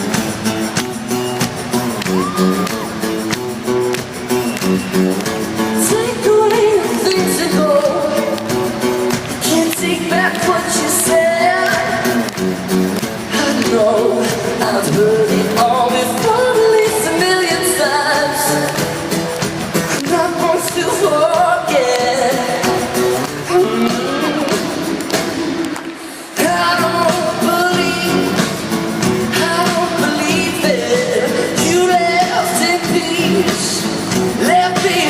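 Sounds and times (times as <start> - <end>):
live pop song with singer: 0.0 - 35.0.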